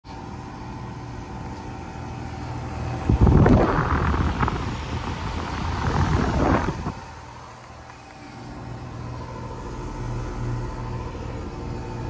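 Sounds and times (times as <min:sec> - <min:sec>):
air conditioner hum: 0:00.0 - 0:12.0
fan air buffeting microphone: 0:00.0 - 0:12.0.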